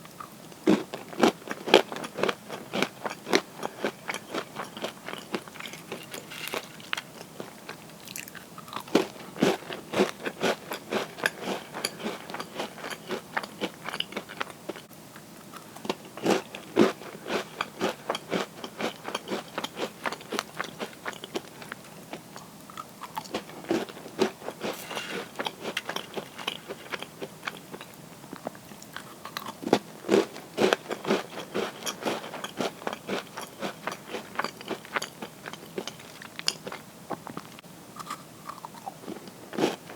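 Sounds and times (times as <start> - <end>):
crunching and chewing cookies: 0.0 - 39.9.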